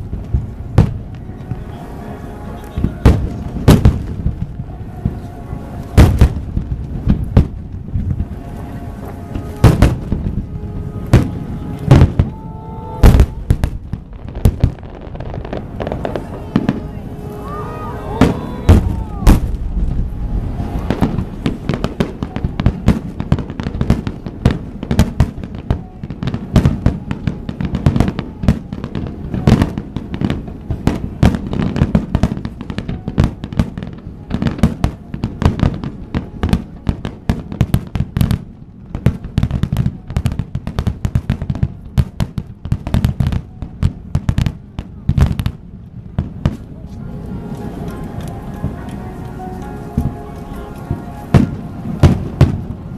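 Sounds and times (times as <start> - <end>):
fireworks bangs: 0.0 - 52.9.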